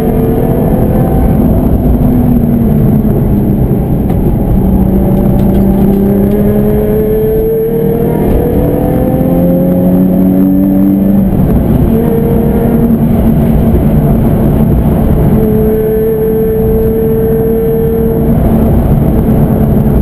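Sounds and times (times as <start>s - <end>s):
car engine while driving: 0.0s - 20.0s.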